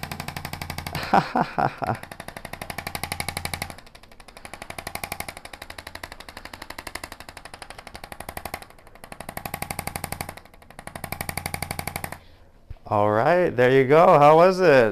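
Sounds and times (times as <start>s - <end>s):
percussion massager rapid tapping: 0.0s - 12.2s.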